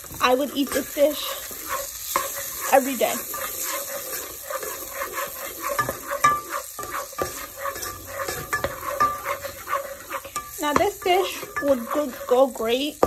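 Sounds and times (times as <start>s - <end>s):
onion sizzling in oil: 0.0s - 13.0s
spoon scraping and tapping pot: 0.0s - 13.0s.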